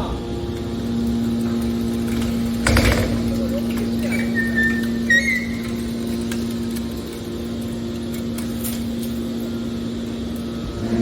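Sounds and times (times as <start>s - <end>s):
baling machine humming: 0.0s - 11.0s.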